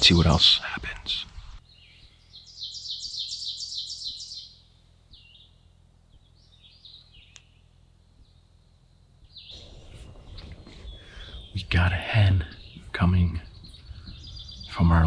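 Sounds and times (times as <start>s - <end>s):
songbird singing: 0.0s - 15.0s
bird chirps: 1.4s - 15.0s.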